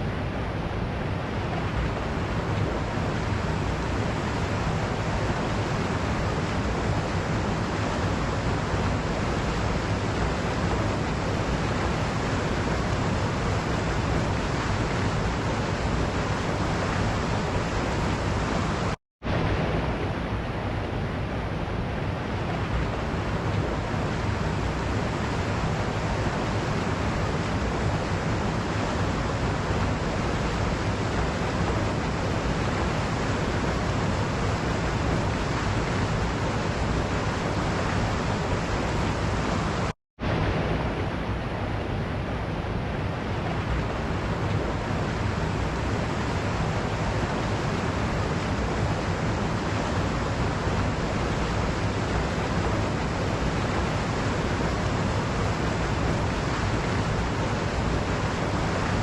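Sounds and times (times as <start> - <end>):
waterfall rushing: 0.1 - 59.0.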